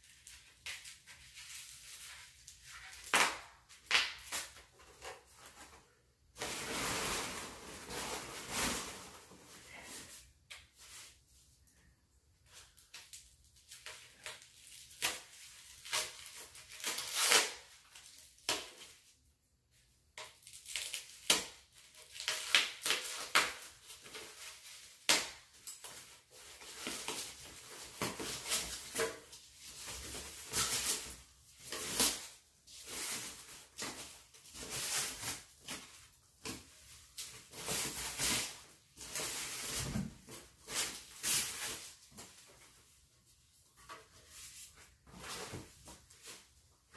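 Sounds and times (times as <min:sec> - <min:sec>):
foam and paper wrap crinkling: 0:00.0 - 0:11.2, 0:20.3 - 0:46.9.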